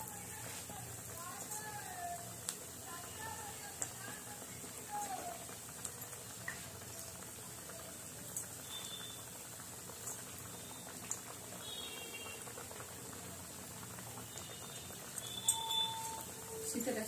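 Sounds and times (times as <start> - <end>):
deep-frying sizzle in oil: 0.0 - 17.0.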